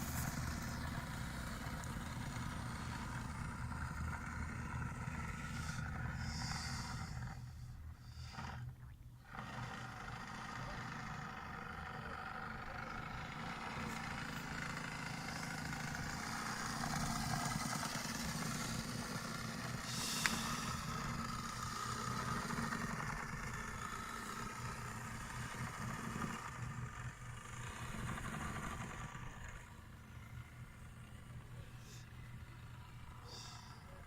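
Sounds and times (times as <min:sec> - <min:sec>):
model boat engine drone: 0:00.0 - 0:34.0.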